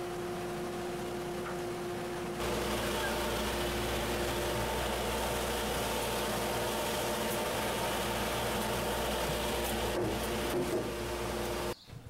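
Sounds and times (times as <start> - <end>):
table saw motor humming: 0.0 - 11.8.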